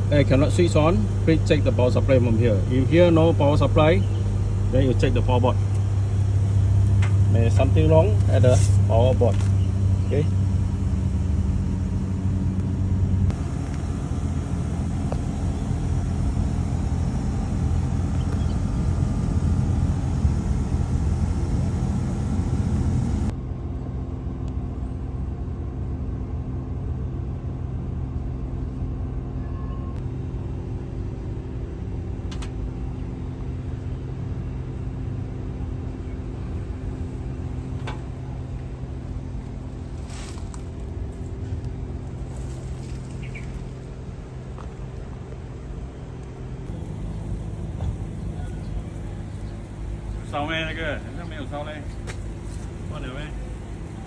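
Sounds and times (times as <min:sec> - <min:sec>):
air conditioning hum: 0:00.0 - 0:54.0.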